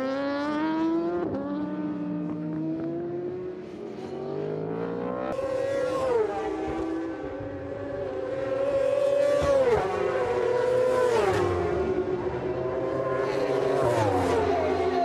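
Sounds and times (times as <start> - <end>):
racing motorcycles at full speed: 0.0 - 15.0.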